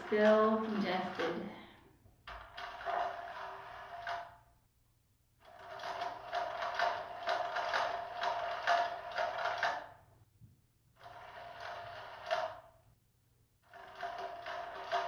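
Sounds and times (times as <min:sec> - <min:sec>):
ball rattling around plastic track: 0:00.0 - 0:04.5, 0:05.4 - 0:10.0, 0:11.0 - 0:12.8, 0:13.6 - 0:15.0.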